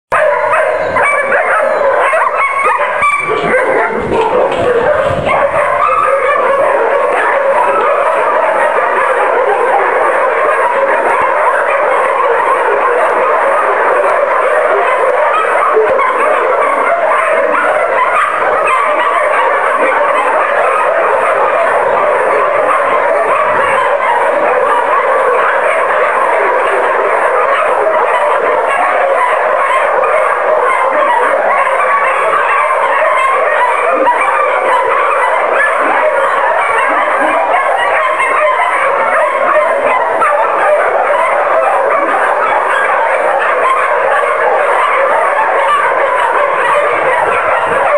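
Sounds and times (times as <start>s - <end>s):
many dogs barking: 0.1s - 47.9s.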